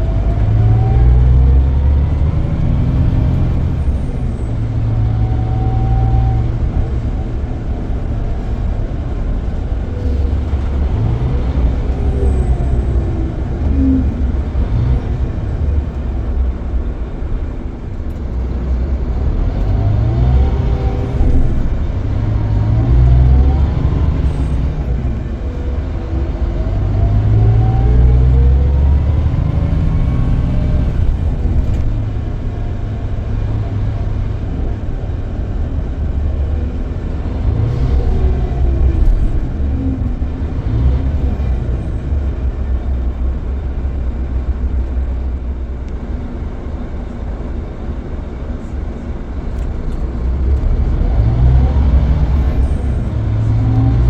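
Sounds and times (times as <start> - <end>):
diesel coach accelerating: 0.0 - 54.0.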